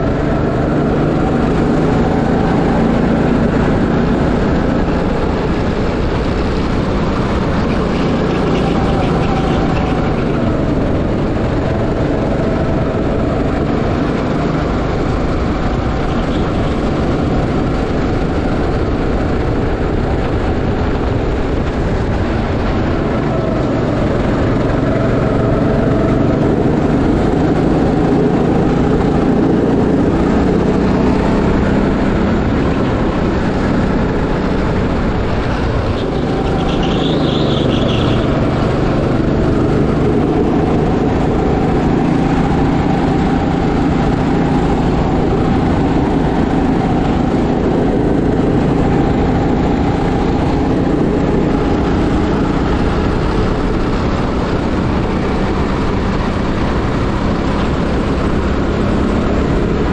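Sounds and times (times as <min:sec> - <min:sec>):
go-kart engine running: 0:00.0 - 0:59.9
wind and road noise: 0:00.0 - 0:59.9.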